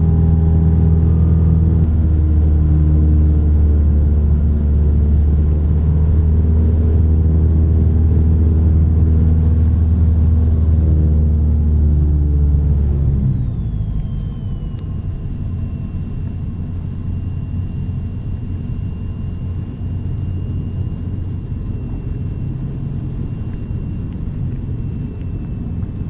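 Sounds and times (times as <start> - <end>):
airplane engine and propeller: 0.0 - 26.0.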